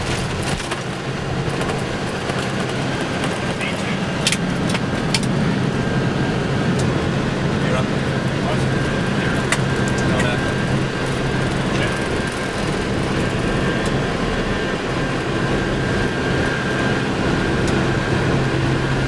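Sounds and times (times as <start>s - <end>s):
jet engines at takeoff power: 0.0s - 19.0s.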